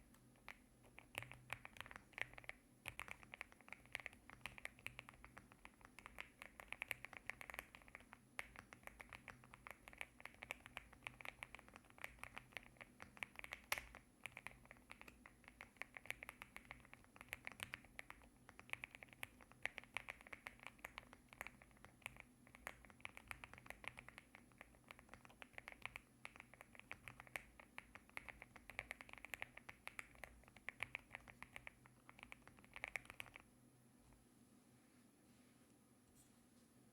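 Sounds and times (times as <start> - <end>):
mechanical keyboard typing: 0.4 - 33.5.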